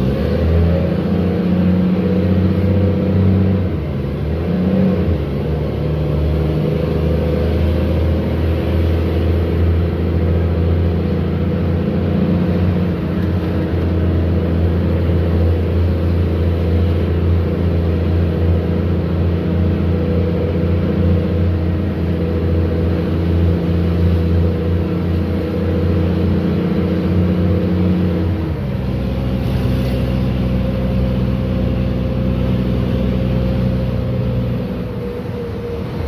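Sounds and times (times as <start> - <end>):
bus diesel engine rumbling: 0.0 - 36.0.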